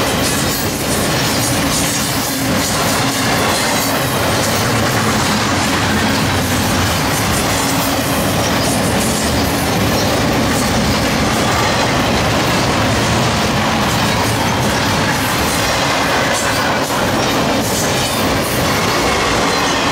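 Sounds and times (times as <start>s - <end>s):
steel wheels running on rails: 0.0s - 19.9s.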